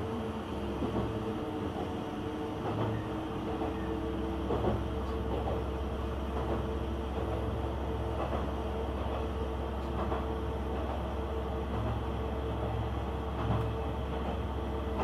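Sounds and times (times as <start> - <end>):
railcar rumble and hum: 0.0 - 15.0.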